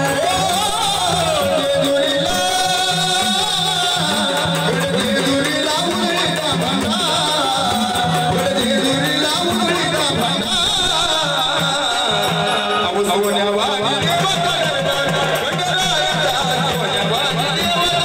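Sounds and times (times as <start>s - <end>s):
instrumental accompaniment with beat: 0.0s - 18.0s
person singing: 0.0s - 18.0s.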